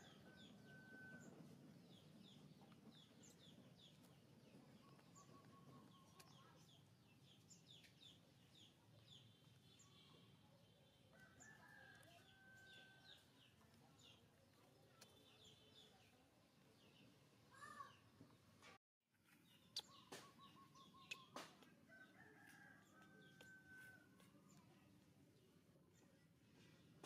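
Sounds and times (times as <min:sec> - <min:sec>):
chickens and small birds chirping: 0:00.0 - 0:18.6, 0:19.3 - 0:27.0.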